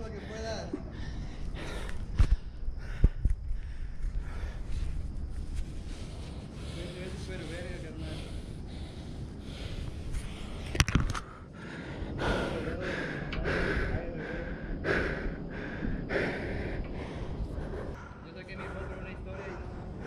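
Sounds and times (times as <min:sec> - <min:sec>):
person breathing hard and gasping: 0:00.8 - 0:05.2, 0:05.8 - 0:18.2.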